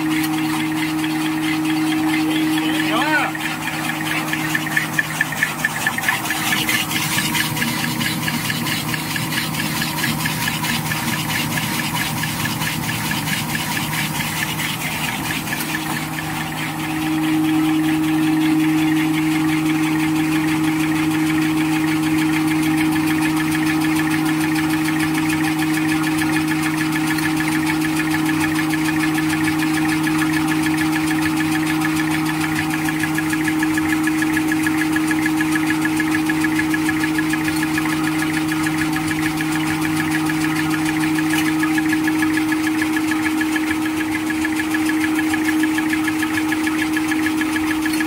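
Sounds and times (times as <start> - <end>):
paper folding machine running: 0.0 - 48.0.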